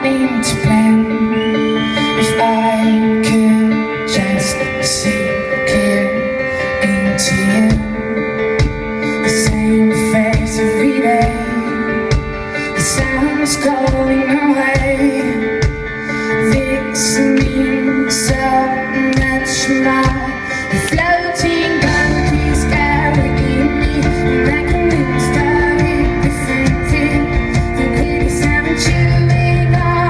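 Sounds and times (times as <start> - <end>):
woman singing: 0.0 - 30.0
sustained keyboard chords: 2.3 - 30.0.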